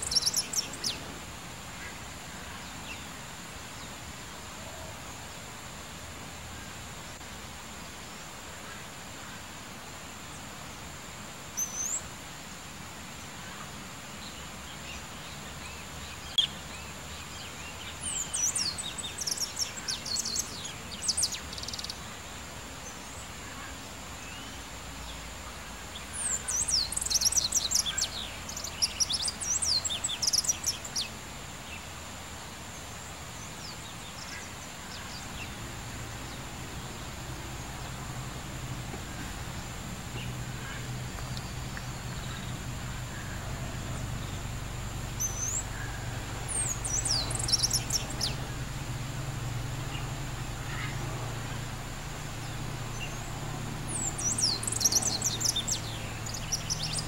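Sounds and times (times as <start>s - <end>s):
songbird high chirping: 0.0s - 4.0s, 11.5s - 12.1s, 14.2s - 32.0s, 32.7s - 57.0s
outdoor background noise: 0.0s - 57.0s.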